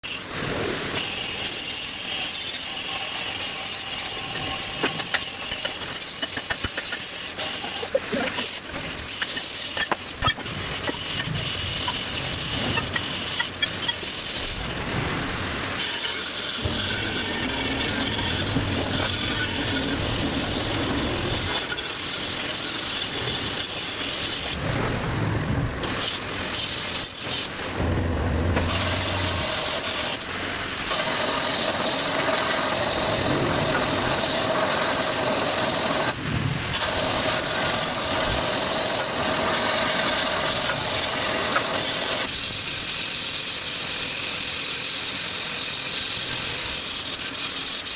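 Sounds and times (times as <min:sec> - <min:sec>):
metal grinding and rasping: 0:01.0 - 0:15.0, 0:15.8 - 0:24.7, 0:25.5 - 0:47.9.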